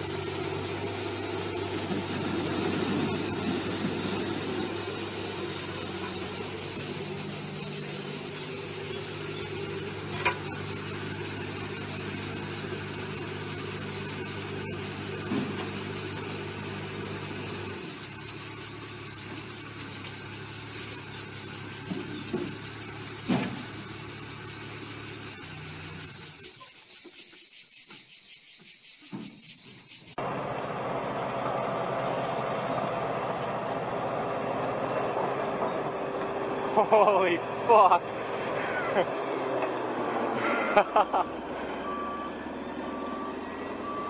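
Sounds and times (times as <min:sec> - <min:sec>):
small diesel engine running: 0:00.0 - 0:27.0, 0:30.1 - 0:44.0
high buzz of insects: 0:00.0 - 0:30.3, 0:33.5 - 0:44.0.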